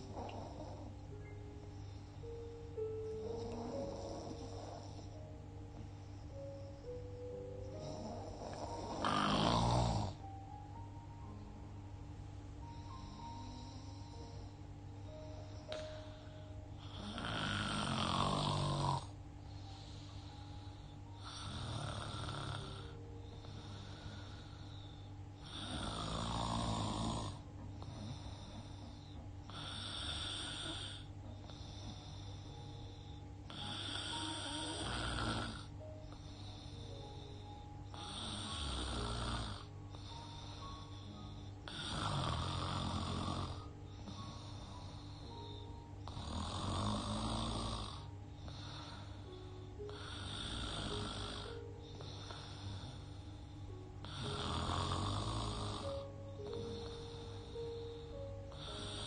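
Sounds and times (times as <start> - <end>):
woman snoring: 0.0 - 1.0, 2.2 - 5.2, 7.6 - 10.3, 12.7 - 20.0, 21.1 - 59.0.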